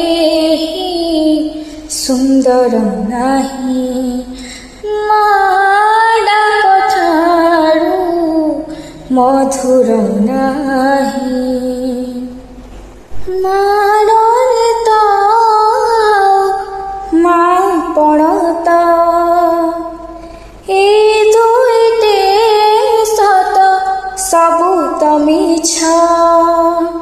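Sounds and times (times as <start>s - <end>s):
woman singing devotional melody: 0.0s - 12.6s, 13.2s - 27.0s.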